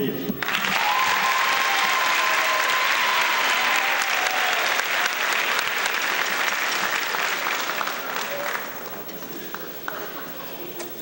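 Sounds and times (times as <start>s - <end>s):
audience applauding: 0.4s - 10.2s.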